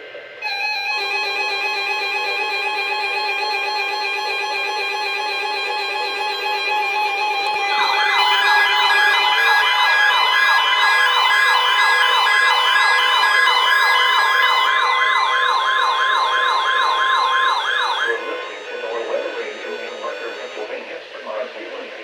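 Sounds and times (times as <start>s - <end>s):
electronic siren yelping: 0.4s - 21.0s
steady high tone: 0.4s - 22.0s.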